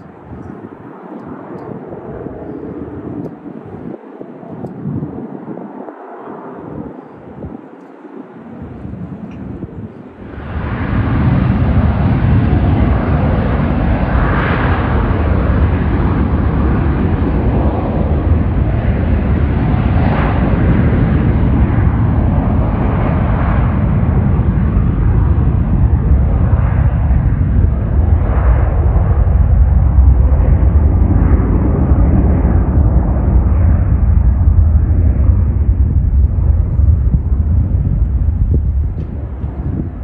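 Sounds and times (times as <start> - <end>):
jet airliner engines roaring: 0.0 - 40.0.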